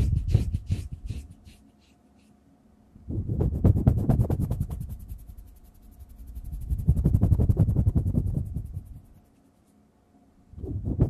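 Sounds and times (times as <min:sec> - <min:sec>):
fingertips rubbing at microphone: 0:00.0 - 0:02.4, 0:03.1 - 0:09.8, 0:10.6 - 0:11.0.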